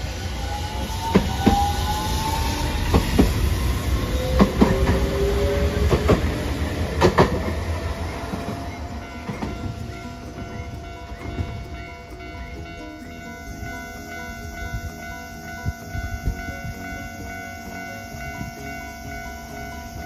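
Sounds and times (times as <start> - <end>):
tram rumbling and whining: 0.0 - 20.0
wheels clacking over rail joints: 0.0 - 20.0.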